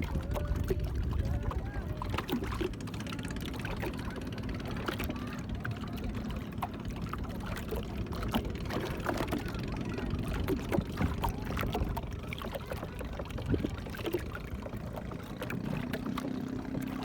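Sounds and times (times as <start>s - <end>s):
faint voices: 0.0s - 17.0s
motorboat engine hum: 0.0s - 17.0s
rushing water: 0.0s - 17.0s.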